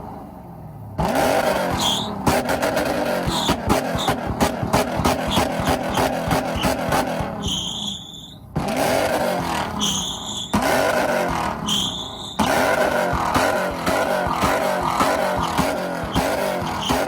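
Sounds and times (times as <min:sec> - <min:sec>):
car engine revving hard: 0:00.9 - 0:07.8, 0:08.5 - 0:17.0
high-pitched tyre squeal: 0:01.3 - 0:17.0.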